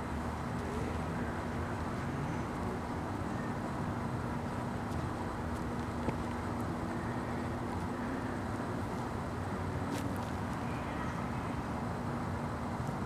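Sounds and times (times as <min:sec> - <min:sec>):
car driving slowly: 0:00.0 - 0:13.0
constant low hum: 0:00.0 - 0:13.0.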